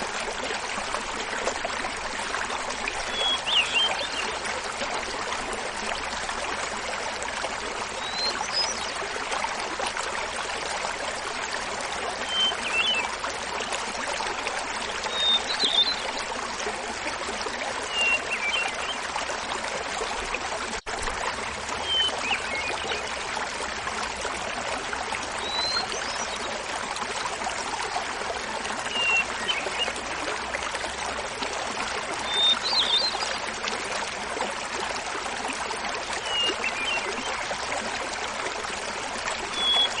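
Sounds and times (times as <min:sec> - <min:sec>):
small waterfall splashing: 0:00.0 - 0:40.0.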